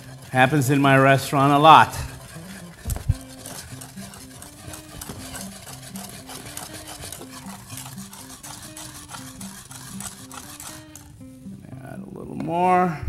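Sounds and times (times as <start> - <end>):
whisk clicking and scraping pot: 0.0 - 11.2.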